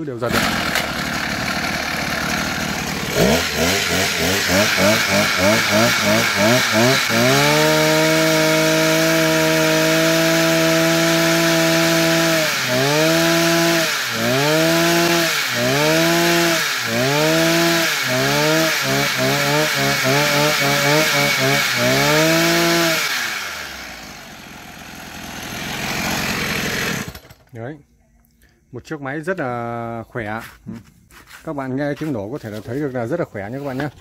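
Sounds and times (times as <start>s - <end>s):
brush cutter engine revving: 0.2s - 27.4s.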